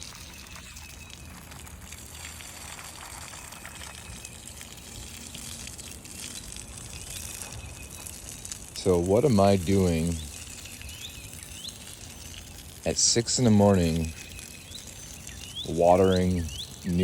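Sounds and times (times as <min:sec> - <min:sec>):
water spraying onto concrete: 0:00.0 - 0:17.0.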